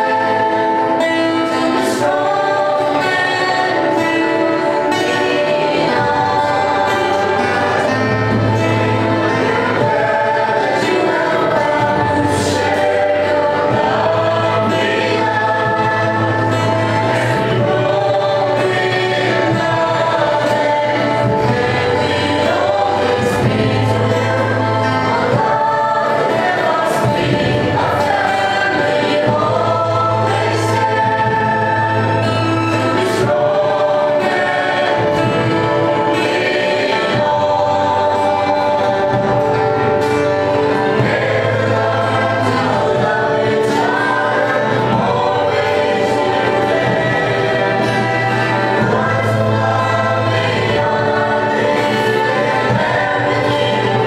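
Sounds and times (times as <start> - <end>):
group of men and women singing: 0.0 - 54.0.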